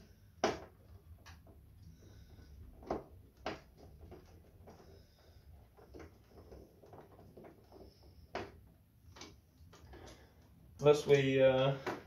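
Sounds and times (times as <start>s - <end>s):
faint ticks and scraping: 0.8s - 12.0s.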